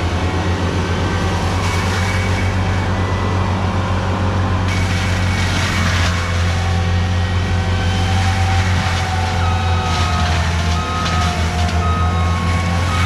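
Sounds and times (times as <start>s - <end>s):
diesel engine running hard: 0.0s - 13.0s
reversing alarm beeping: 1.0s - 13.0s.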